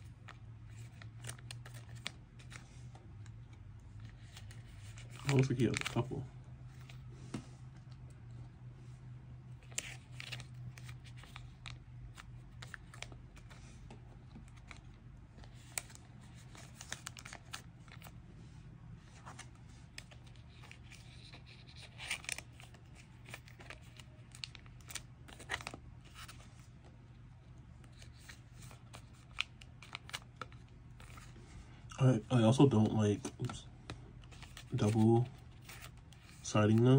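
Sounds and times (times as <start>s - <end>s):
plastic sleeves crinkling: 0.0s - 7.1s, 9.6s - 18.2s, 19.1s - 26.9s, 27.8s - 31.4s, 32.4s - 36.9s.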